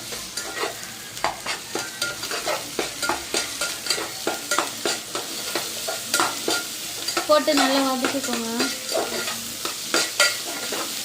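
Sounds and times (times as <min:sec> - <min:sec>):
metal spoon scraping a pan: 0:00.0 - 0:11.0
paste sizzling in hot oil: 0:00.0 - 0:11.0.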